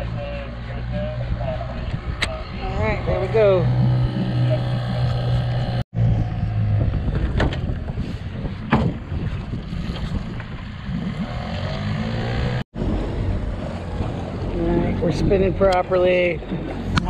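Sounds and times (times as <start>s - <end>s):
outboard motor running: 0.0s - 5.8s, 6.6s - 17.0s
water rushing along hull: 0.0s - 5.8s, 7.5s - 17.0s.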